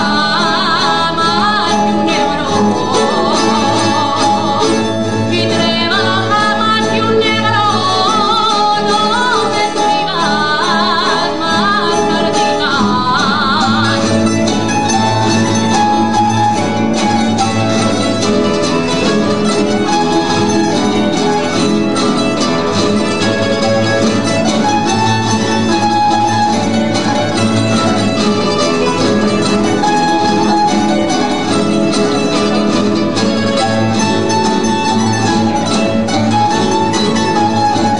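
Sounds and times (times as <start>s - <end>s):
plucked string ensemble playing: 0.0s - 37.9s.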